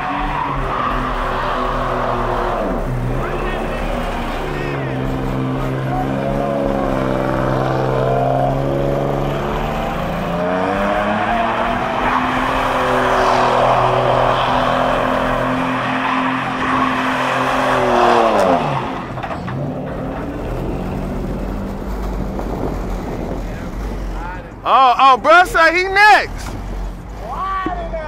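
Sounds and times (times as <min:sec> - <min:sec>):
truck engine revving: 0:00.0 - 0:27.4
tyres squealing on pavement: 0:00.0 - 0:28.0.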